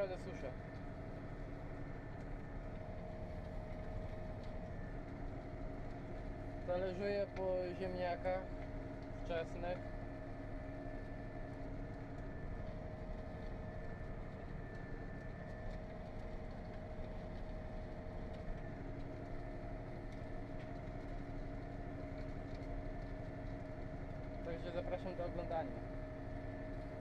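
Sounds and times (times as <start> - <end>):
tractor engine running under load: 0.0 - 27.0.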